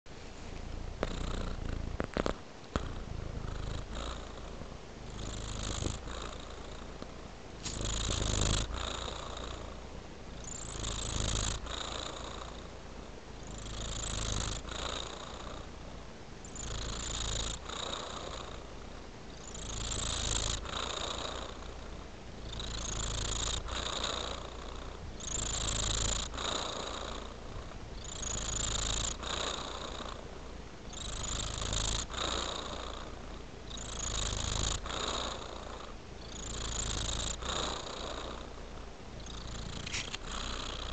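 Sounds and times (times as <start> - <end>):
kitten purring: 0.4 - 40.9.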